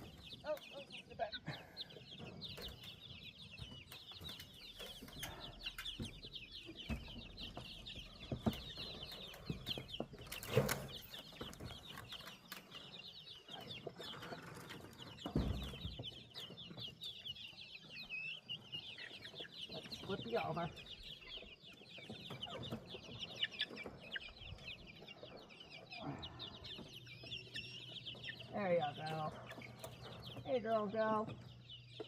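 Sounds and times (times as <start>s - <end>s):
baby chicks peeping: 0.0s - 32.0s.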